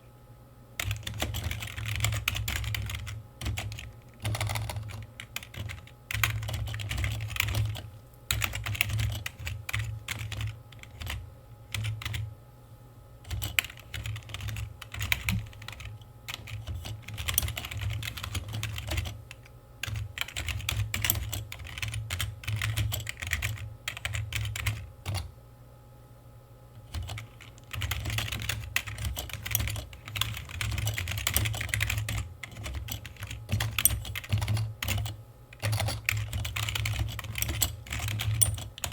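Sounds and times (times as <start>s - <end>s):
typing on computer keyboard: 0.8s - 12.3s, 13.3s - 25.3s, 26.8s - 38.9s.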